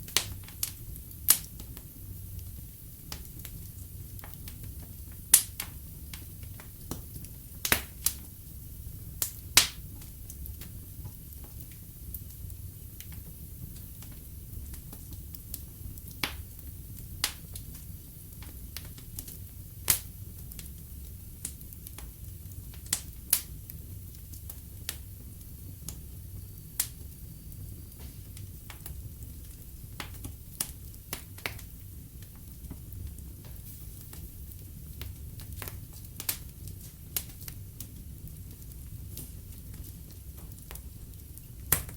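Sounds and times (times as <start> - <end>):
fire crackling and popping: 0.0 - 41.9
low rumble of flames: 0.0 - 41.9.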